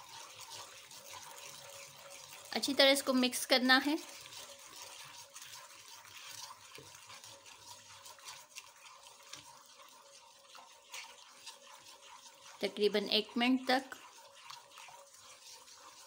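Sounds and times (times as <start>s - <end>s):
spoon swishing and scraping: 0.0s - 16.0s.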